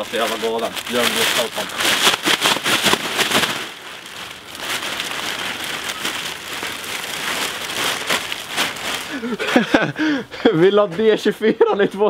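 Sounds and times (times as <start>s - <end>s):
plastic bags rustling: 0.0s - 10.8s.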